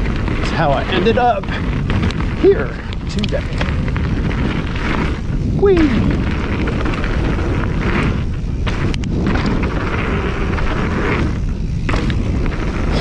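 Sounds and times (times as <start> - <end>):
bike tyres rolling over dirt: 0.0 - 13.0
wind rumbling on microphone: 0.0 - 13.0.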